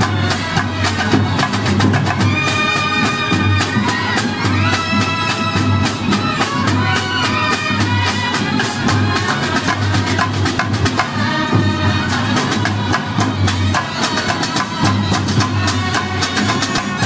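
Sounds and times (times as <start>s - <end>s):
snare and bass drums: 0.0s - 17.0s
trumpets and clarinet playing: 0.0s - 17.0s.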